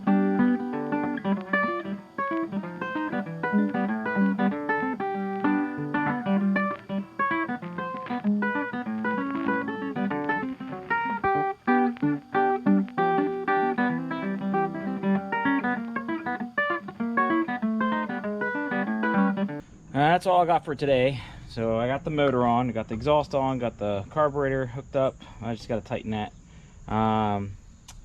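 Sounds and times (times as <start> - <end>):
acoustic guitar music: 0.0 - 21.2, 21.8 - 25.8.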